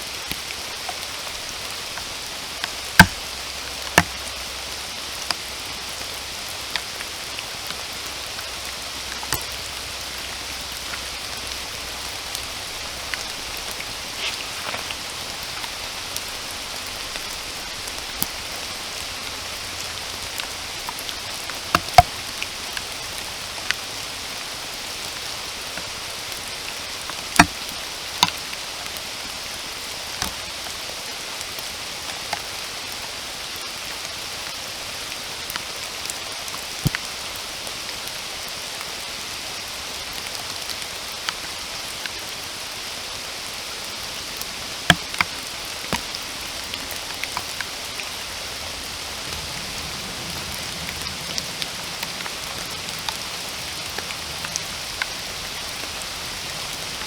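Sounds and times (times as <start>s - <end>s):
raindrops tapping close by: 0.0s - 57.0s
steady rain: 0.0s - 57.0s.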